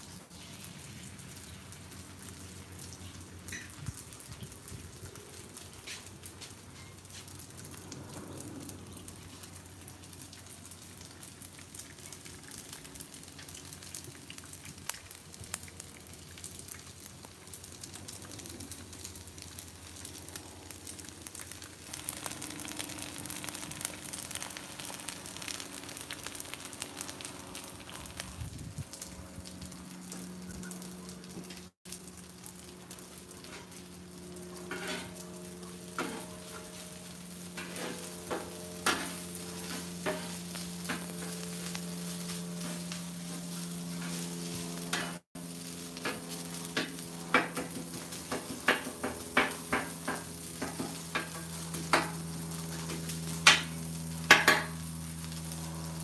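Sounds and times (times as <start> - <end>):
food sizzling on a griddle: 0.0 - 56.0.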